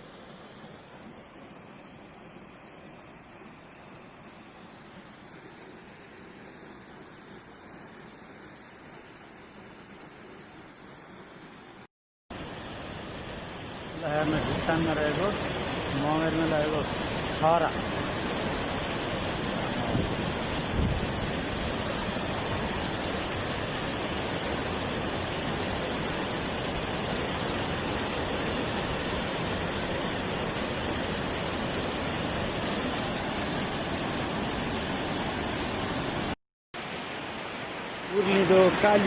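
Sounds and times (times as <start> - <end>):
mountain water rushing: 0.0 - 39.0.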